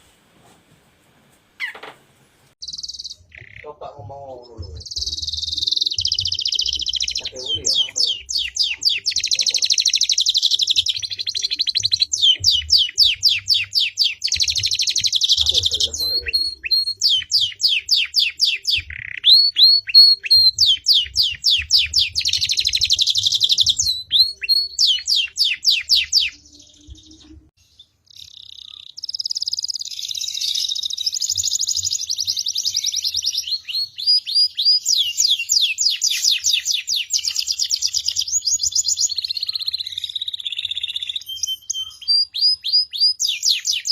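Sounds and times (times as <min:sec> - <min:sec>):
songbird trilling: 0:02.6 - 0:27.3, 0:28.1 - 0:43.9.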